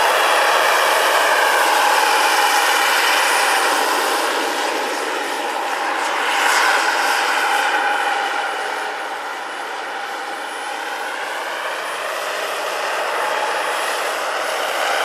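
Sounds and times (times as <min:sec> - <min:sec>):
model helicopter turbine whining: 0:00.0 - 0:15.0.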